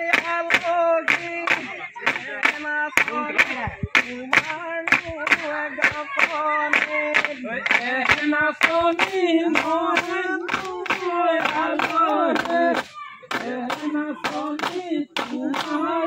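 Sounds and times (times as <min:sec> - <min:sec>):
group singing: 0:00.0 - 0:16.0
sharp hand claps: 0:00.1 - 0:15.8.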